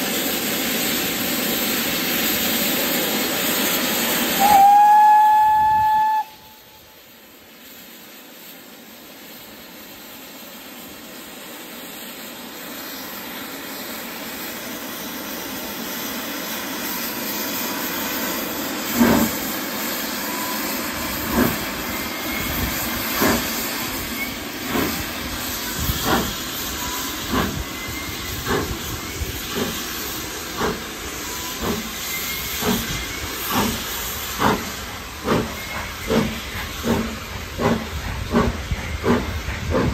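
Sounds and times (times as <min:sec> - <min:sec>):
steam hissing: 0:00.0 - 0:39.9
steam locomotive chuffing beat: 0:00.0 - 0:39.9.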